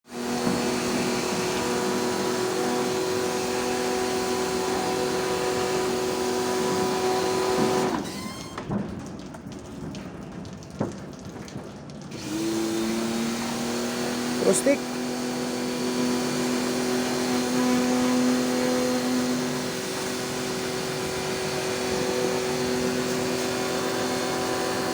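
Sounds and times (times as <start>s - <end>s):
electric motor humming and whining: 0.1s - 8.1s, 12.2s - 24.9s.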